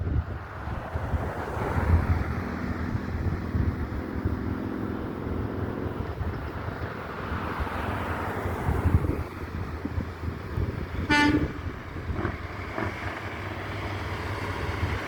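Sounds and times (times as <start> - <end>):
truck engine drone: 0.0 - 15.0
tyre and road noise: 0.0 - 15.0
wind buffeting microphone: 0.0 - 15.0.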